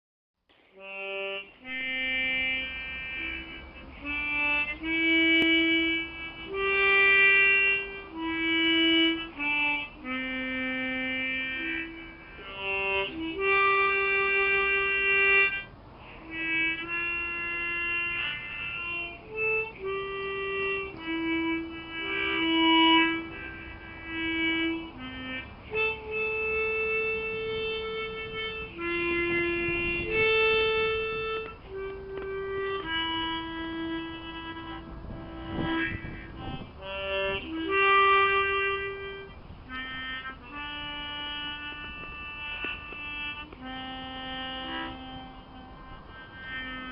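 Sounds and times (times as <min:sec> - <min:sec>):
solo harmonica melody: 0:00.5 - 0:46.9.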